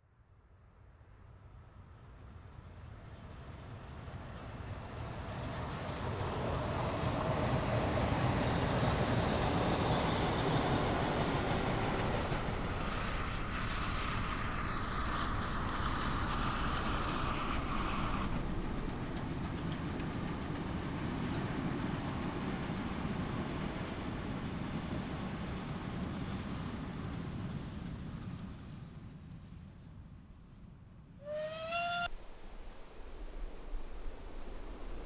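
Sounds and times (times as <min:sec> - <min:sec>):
train wheels rumbling on rails: 0:01.9 - 0:30.1.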